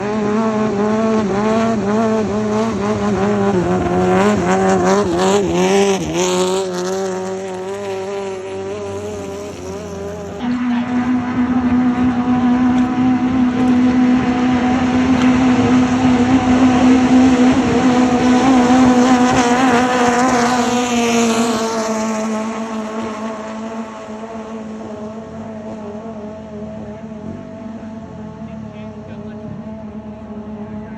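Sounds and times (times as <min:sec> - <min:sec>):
boat engine running hard: 0:00.0 - 0:30.9.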